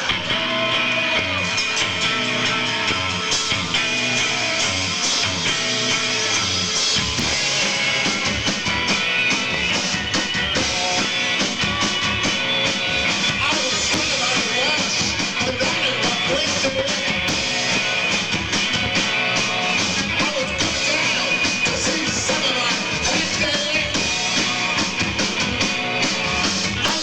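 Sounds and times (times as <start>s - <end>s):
drum kit: 0.0s - 27.0s
electric guitar: 0.0s - 27.0s.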